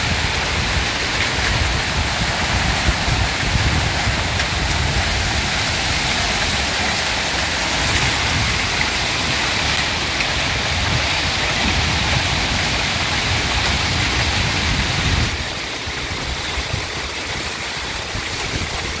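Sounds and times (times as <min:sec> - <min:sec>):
hail and rain pelting down: 0:00.0 - 0:19.0.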